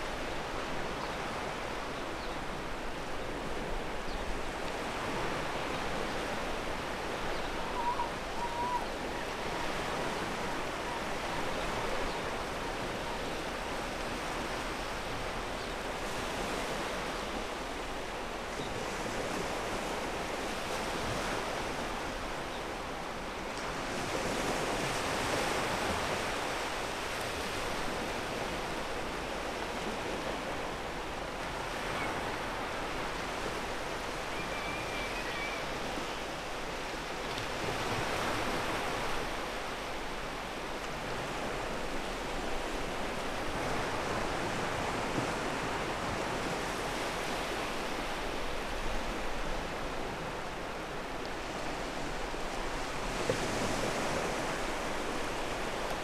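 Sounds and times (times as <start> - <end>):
waves on a pebble beach: 0.0 - 56.0.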